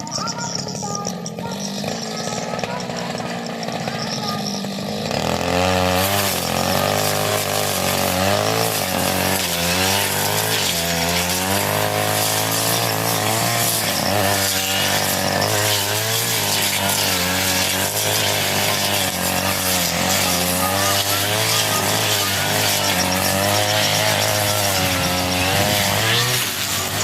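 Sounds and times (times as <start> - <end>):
brush cutter cutting grass: 0.0 - 27.0.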